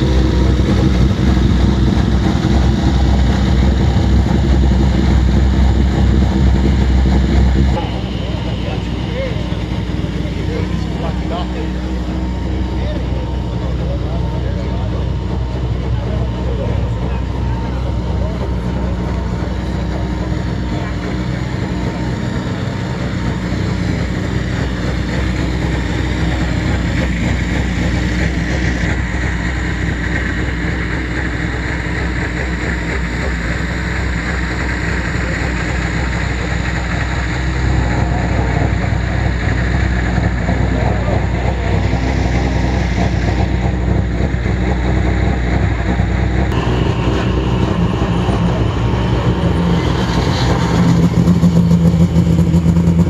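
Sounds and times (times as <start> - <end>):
rally car engine idling: 0.0 - 53.0.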